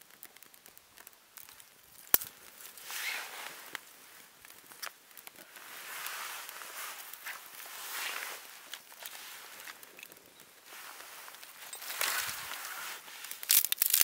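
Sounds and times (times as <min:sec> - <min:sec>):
twigs crackling: 0:00.0 - 0:14.0.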